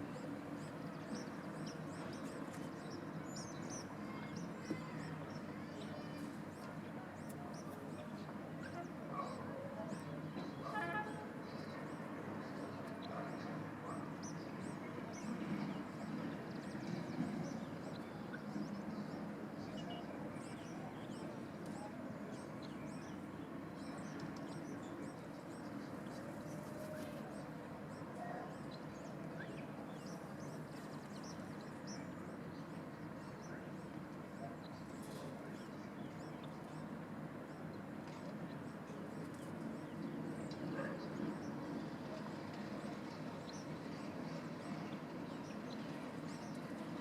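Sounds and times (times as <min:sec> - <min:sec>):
steady background noise: 0:00.0 - 0:47.0.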